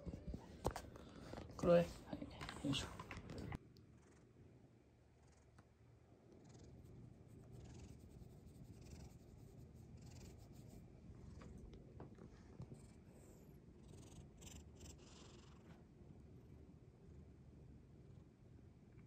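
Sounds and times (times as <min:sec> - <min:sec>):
cat purring: 0:00.0 - 0:18.6.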